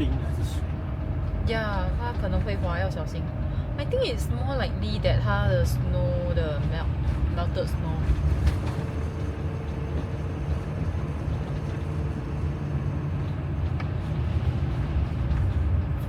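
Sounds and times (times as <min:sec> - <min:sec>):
vehicle engine and tyres rumble: 0:00.0 - 0:16.0.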